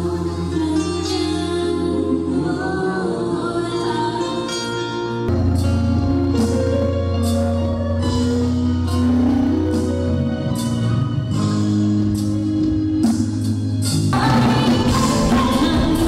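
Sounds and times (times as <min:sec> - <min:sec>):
live band playing amplified music: 0:00.0 - 0:16.0.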